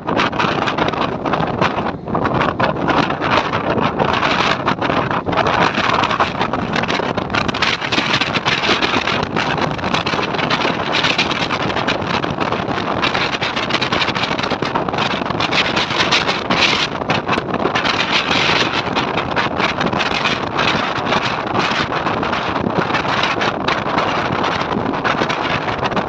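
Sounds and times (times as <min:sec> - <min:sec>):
train wind and wheel-on-rail noise: 0:00.0 - 0:26.0.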